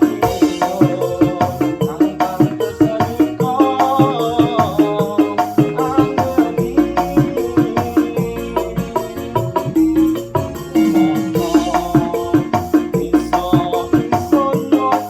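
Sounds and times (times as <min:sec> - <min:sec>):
keyboard melody: 0:00.0 - 0:15.0
steady percussion beat: 0:00.0 - 0:15.0.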